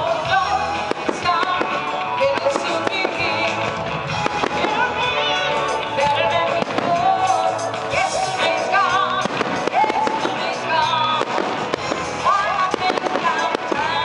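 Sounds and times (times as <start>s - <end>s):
fireworks bursting and crackling: 0.0s - 14.0s
loud music: 0.0s - 14.0s.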